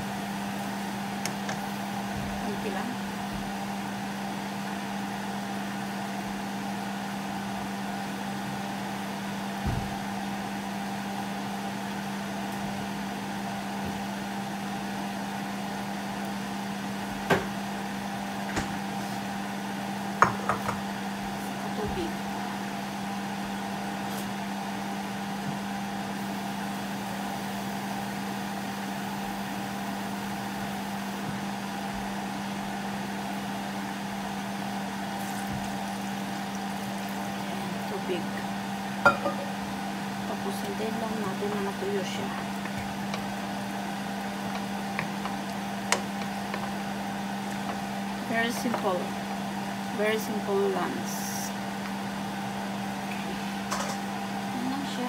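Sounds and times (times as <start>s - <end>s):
kitchen fan motor hum: 0.0s - 55.0s.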